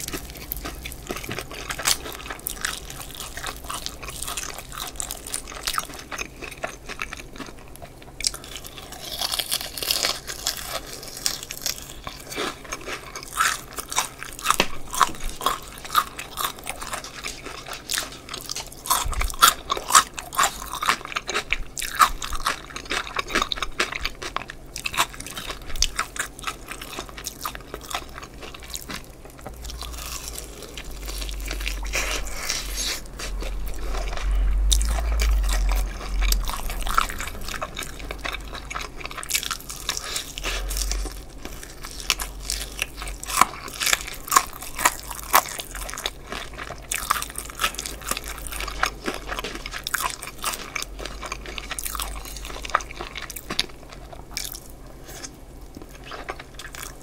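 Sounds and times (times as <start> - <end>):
chewing: 0.0 - 57.0.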